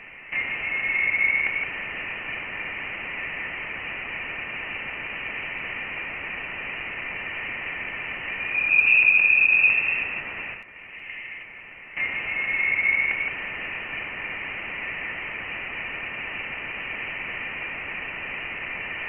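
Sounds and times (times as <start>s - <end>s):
radio-like hiss: 0.0s - 19.0s.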